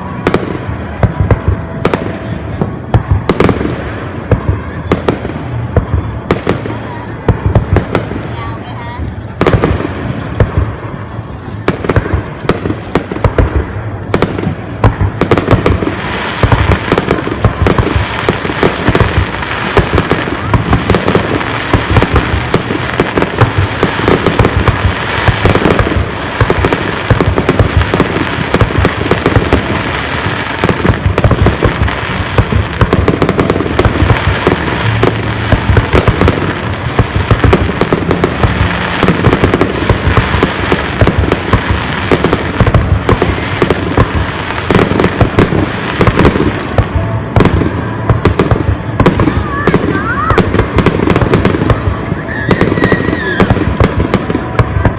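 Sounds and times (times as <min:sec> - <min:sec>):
fireworks crackle: 0:00.0 - 0:54.9
firework shells bursting: 0:07.3 - 0:54.9.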